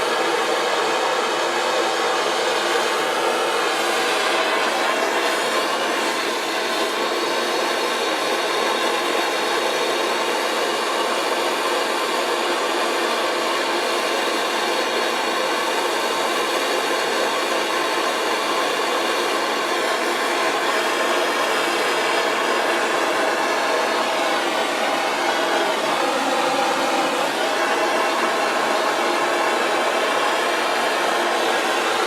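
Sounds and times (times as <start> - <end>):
heating tool blowing: 0.0 - 32.0.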